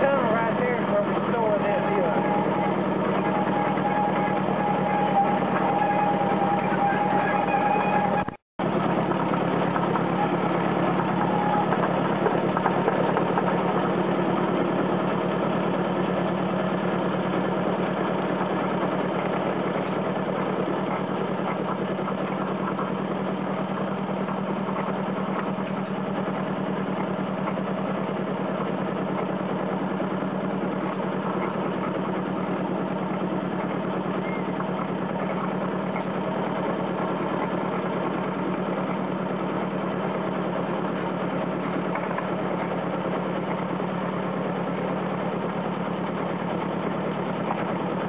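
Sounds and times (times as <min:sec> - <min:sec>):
miniature train engine humming: 0:00.0 - 0:48.0.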